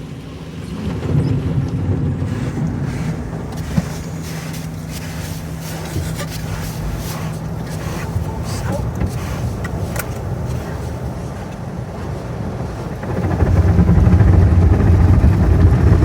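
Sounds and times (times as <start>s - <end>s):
car wash mechanical rumble: 0.0s - 16.0s
steady hum: 0.0s - 16.0s
water spraying against car: 0.0s - 16.0s.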